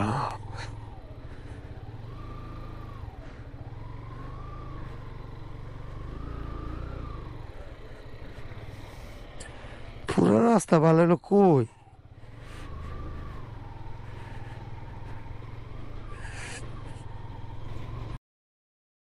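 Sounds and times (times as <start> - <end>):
motorcycle engine riding slowly: 0.0 - 18.2.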